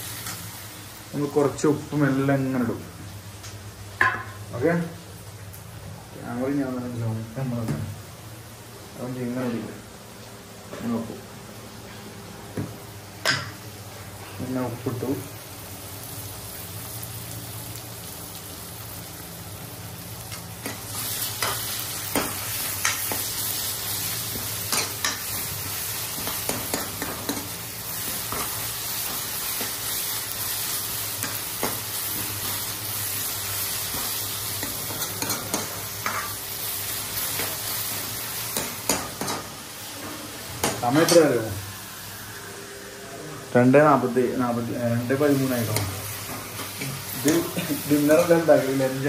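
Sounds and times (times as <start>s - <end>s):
onions sizzling in hot oil: 0.0s - 6.6s, 7.4s - 42.9s, 43.5s - 49.0s.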